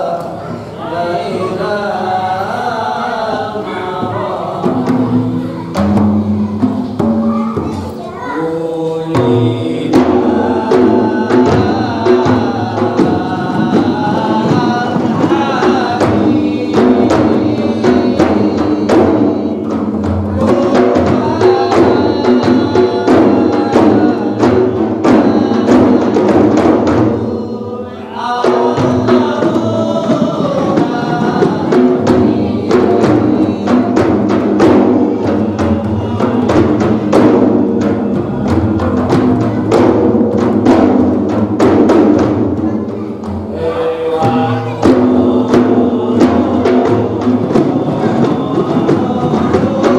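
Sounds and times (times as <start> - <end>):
voices chanting: 0.0 - 49.9
frame drums playing fast rhythm: 3.3 - 49.9.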